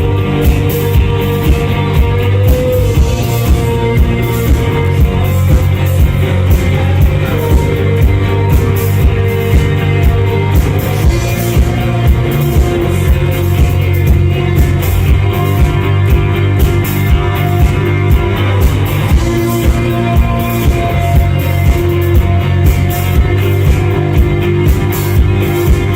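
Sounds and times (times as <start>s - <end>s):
drums steady beat: 0.0s - 25.9s
live rock band playing: 0.0s - 25.9s.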